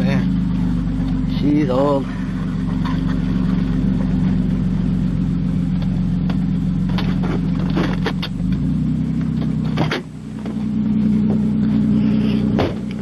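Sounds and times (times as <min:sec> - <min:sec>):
loud rumbling car engine: 0:00.0 - 0:13.0.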